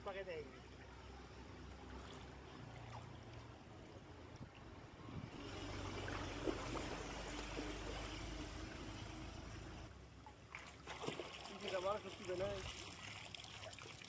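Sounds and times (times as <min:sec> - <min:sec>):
water swishing and trickling: 0:00.0 - 0:14.0.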